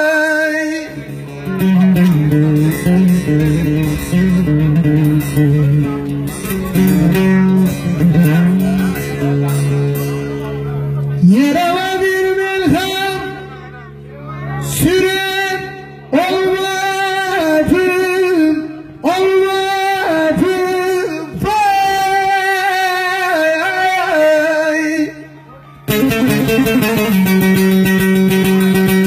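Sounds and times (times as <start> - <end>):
man singing a folk lament: 0.0 - 6.1, 11.2 - 29.0
lute drone and strumming: 0.0 - 29.0.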